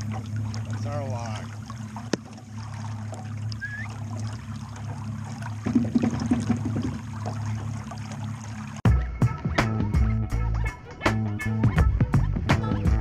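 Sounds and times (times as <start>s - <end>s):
boat motor running: 0.0s - 13.0s
water rushing along hull: 0.0s - 13.0s.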